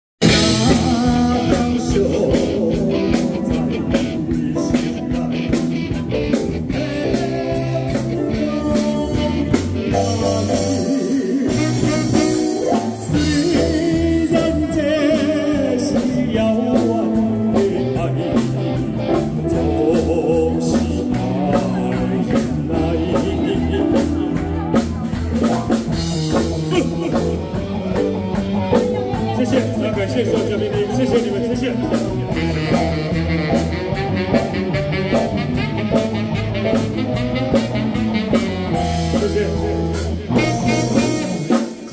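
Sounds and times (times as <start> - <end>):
man singing into a microphone: 0.2 - 25.5, 26.3 - 33.6, 38.7 - 41.9
saxophone: 0.2 - 30.0, 30.7 - 41.9
live band playing: 0.2 - 41.9.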